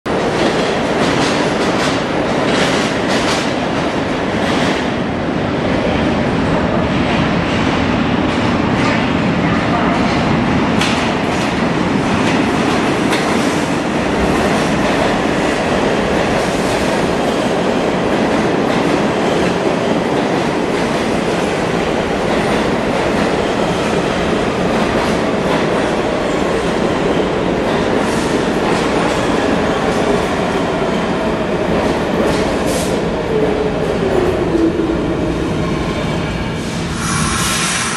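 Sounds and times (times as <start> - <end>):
subway train wheels rumbling on rail: 0.0 - 37.9.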